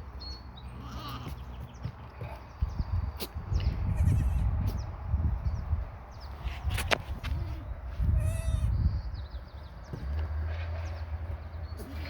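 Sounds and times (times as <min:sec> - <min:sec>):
wind rumbling on microphone: 0:01.1 - 0:12.0.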